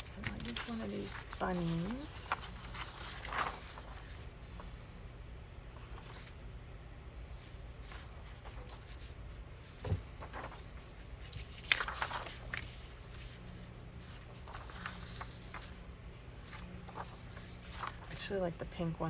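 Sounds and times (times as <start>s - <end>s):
paper rustling: 0.0s - 4.8s, 5.7s - 6.4s, 7.3s - 18.6s.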